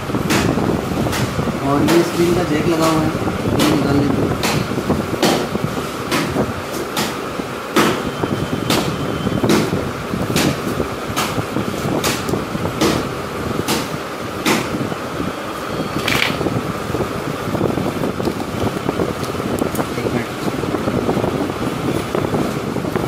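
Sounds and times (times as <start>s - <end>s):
steady fan-like noise: 0.0s - 23.0s.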